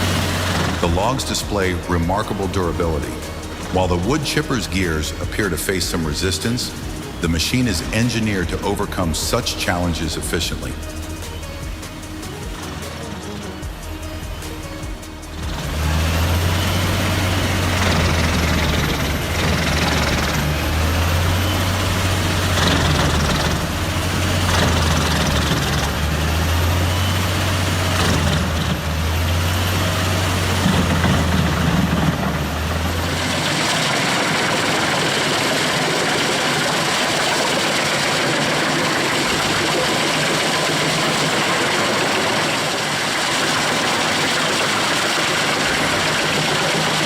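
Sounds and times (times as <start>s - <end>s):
logs fed through chipper: 0.0s - 47.0s
wood chipper engine humming: 0.0s - 47.0s.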